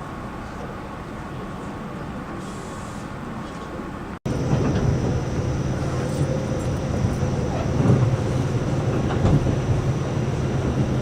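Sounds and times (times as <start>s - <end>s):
moving train rumble: 0.0s - 11.0s.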